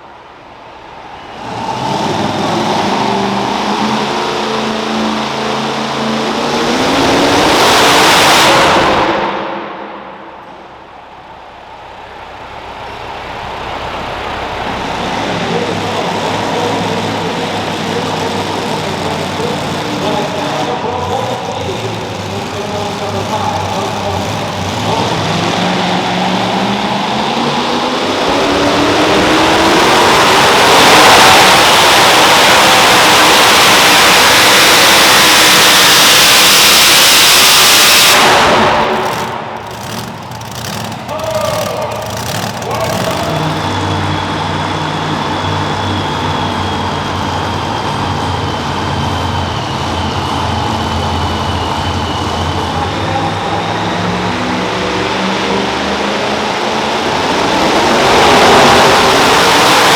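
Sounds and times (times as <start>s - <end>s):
truck engine running hard: 0.0s - 59.9s.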